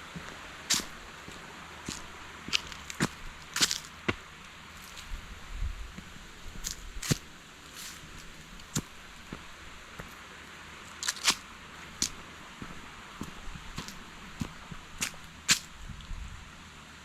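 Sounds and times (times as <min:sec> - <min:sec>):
footsteps on rough ground: 0:00.0 - 0:16.1.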